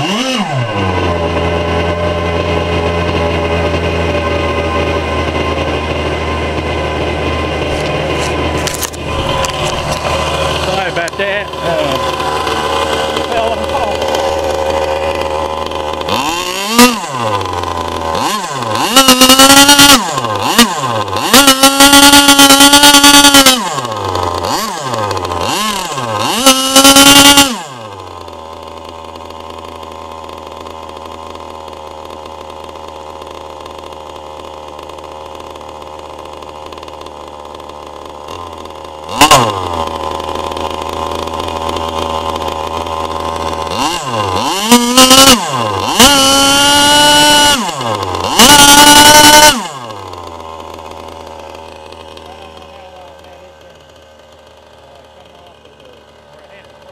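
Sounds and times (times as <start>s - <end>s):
model engine revving and idling: 0.0s - 56.9s.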